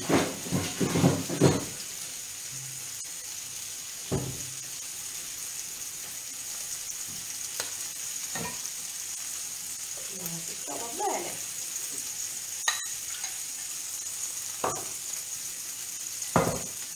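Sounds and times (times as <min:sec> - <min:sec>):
octopus frying in oil: 0:00.0 - 0:16.9.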